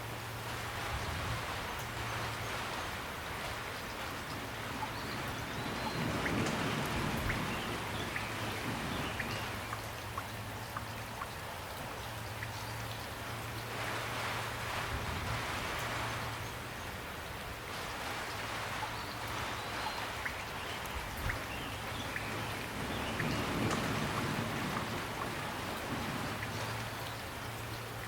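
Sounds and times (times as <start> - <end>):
raindrops ticking close by: 0.0 - 28.0
steady rain falling: 0.0 - 28.0.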